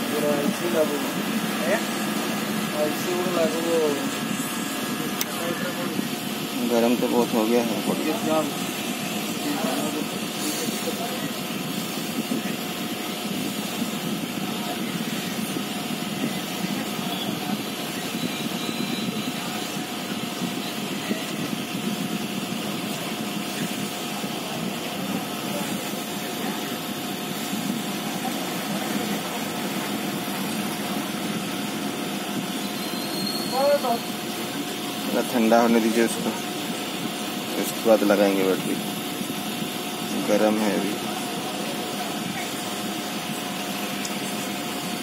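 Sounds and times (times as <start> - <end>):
mechanical hum: 0.0 - 45.0.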